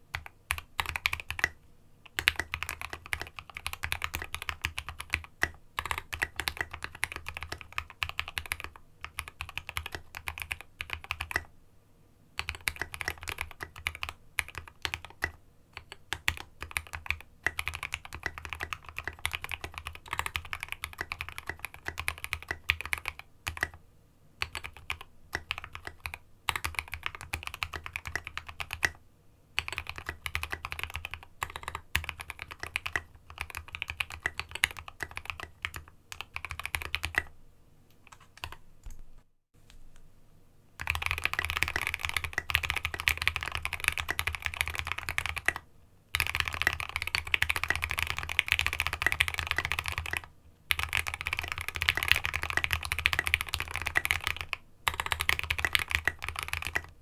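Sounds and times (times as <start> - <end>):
mechanical keyboard typing: 0.1 - 11.5, 12.4 - 23.8, 24.4 - 29.0, 29.6 - 37.3, 38.0 - 39.0, 40.8 - 57.0.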